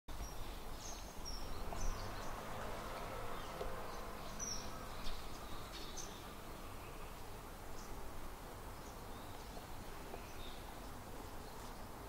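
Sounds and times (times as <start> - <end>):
low outdoor rumble: 0.5 - 12.0.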